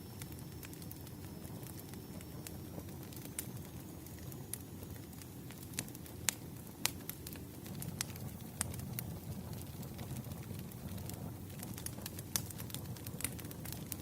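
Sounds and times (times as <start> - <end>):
low rumble of burning logs: 0.0 - 14.0
wood fire popping and snapping: 0.0 - 14.0.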